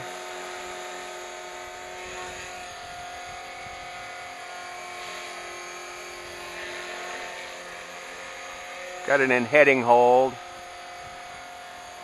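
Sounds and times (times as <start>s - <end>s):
rc helicopter motor and rotor whine: 0.0s - 12.0s.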